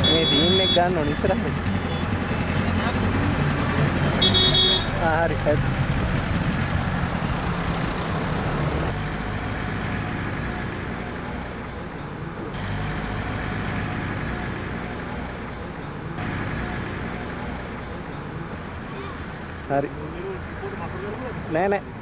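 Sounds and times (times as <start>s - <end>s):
engine hum: 0.0s - 22.0s
road noise of passing cars: 0.0s - 22.0s.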